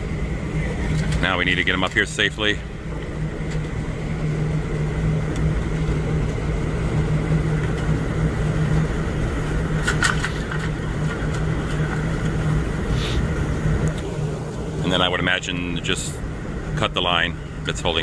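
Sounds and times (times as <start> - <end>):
low machinery hum: 0.0 - 18.0
wind and rough sea rumble: 0.0 - 18.0.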